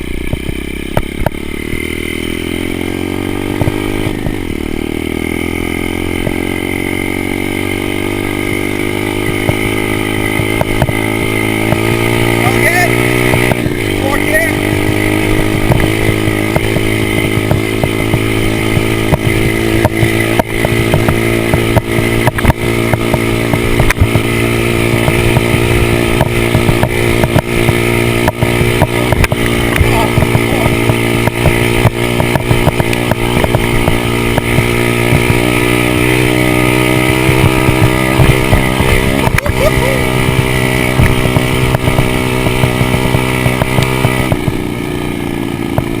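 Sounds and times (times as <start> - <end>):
small motorbike engine revving high: 0.0 - 46.0.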